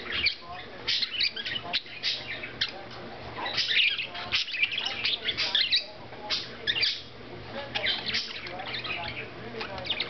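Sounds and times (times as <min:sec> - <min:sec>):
budgies chirping: 0:00.0 - 0:10.0.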